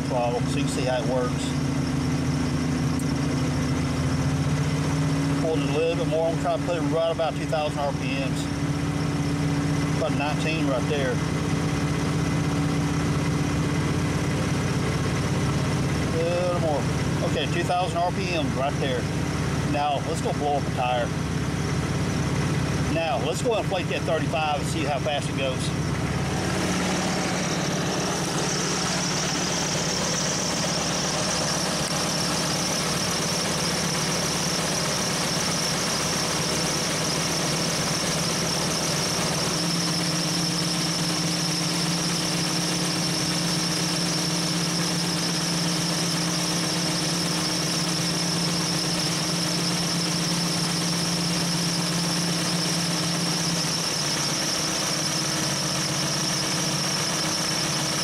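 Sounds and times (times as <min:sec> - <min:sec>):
car engine fast idle: 0:00.0 - 0:58.0
compressor high-pitched squeal: 0:00.0 - 0:58.0.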